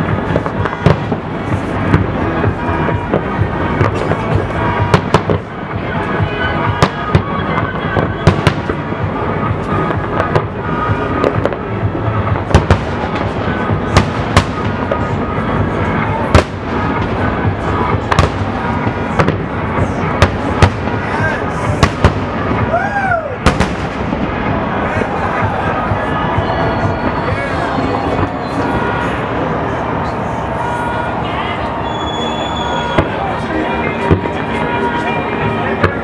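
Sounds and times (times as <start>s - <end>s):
fireworks rumble and crackle: 0.0s - 36.0s.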